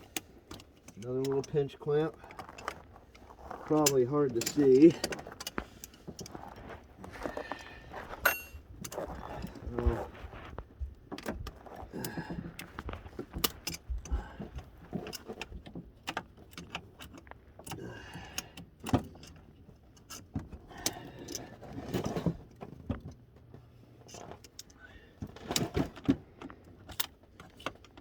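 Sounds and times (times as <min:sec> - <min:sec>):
hand tools clicking and scraping: 0:00.0 - 0:28.0.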